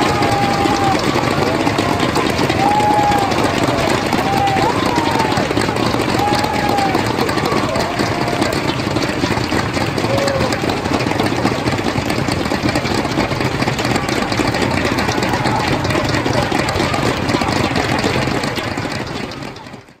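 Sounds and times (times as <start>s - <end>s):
crowd voices talking: 0.0s - 20.0s.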